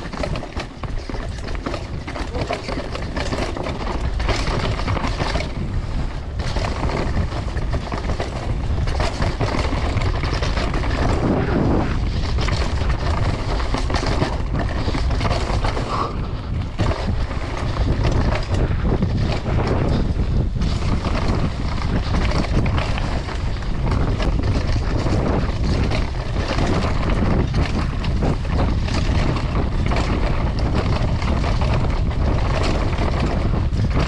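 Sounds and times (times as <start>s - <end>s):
bike rattling over bumps: 0.0s - 34.0s
tyres rumbling on dirt: 0.0s - 34.0s
wind noise on microphone: 0.0s - 34.0s.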